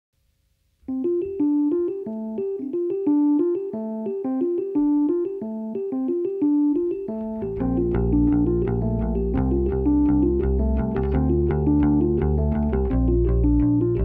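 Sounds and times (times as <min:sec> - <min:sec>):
rhythmic keyboard piano figure: 0:00.8 - 0:14.0.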